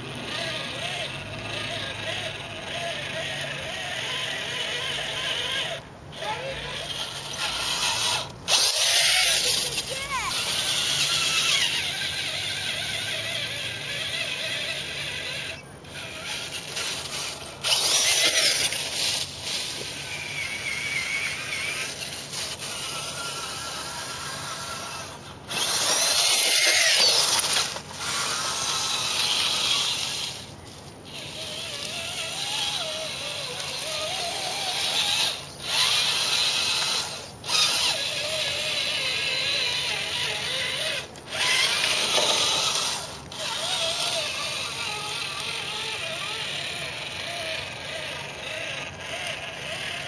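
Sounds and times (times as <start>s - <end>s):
electric motor whining: 0.0s - 50.0s.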